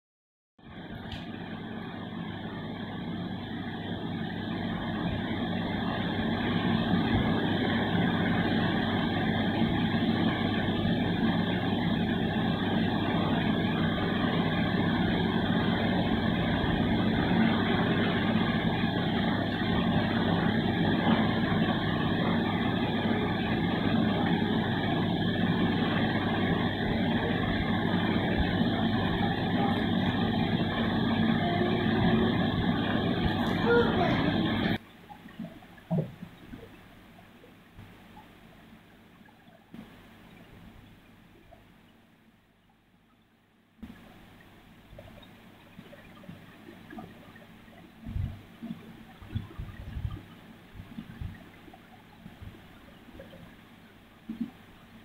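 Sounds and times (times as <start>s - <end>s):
mechanical droning: 0.6s - 55.0s.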